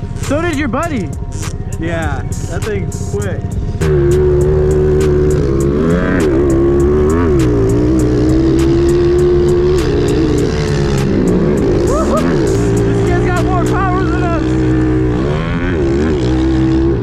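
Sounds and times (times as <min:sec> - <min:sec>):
pit bike engine at high revs: 0:00.0 - 0:17.0.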